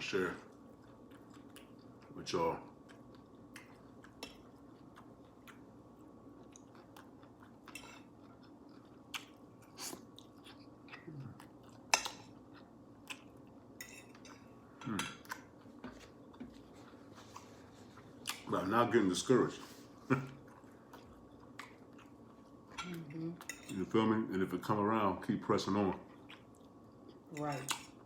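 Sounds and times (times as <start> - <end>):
person chewing: 0.5 - 18.5, 20.1 - 23.6, 26.0 - 28.0.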